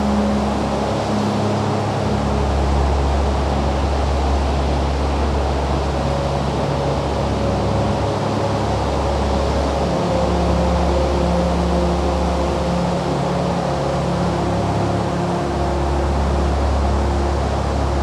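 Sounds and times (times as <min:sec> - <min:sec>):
waves and wind rushing: 0:00.0 - 0:18.0.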